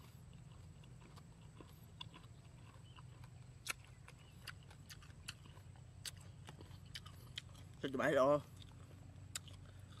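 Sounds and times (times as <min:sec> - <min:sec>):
faint crunchy chewing: 0:00.0 - 0:10.0
low steady hum: 0:00.0 - 0:10.0.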